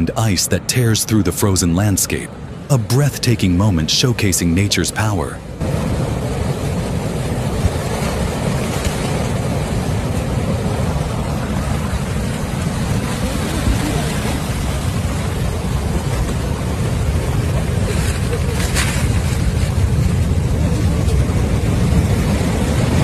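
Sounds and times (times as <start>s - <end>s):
water and ice rushing: 0.2s - 23.0s.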